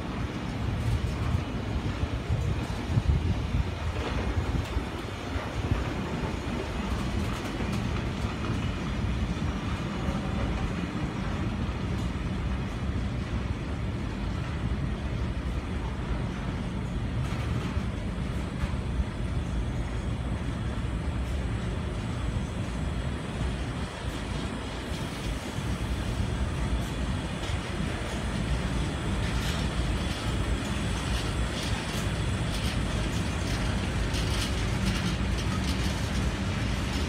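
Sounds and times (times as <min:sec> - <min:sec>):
freight train wheels rumbling: 0:00.0 - 0:37.0
train clicks and clanks: 0:00.0 - 0:37.0.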